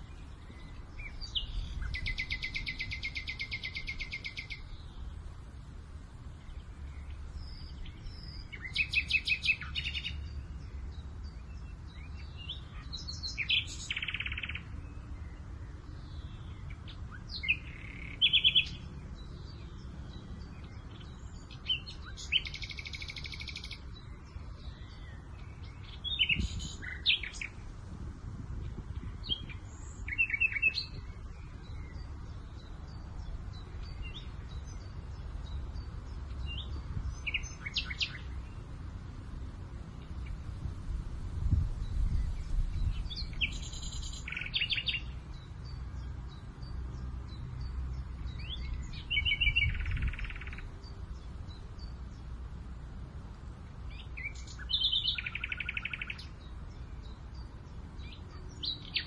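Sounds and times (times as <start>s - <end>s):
low wind rumble: 0.0s - 59.0s
wild birds singing and calling: 0.0s - 59.0s.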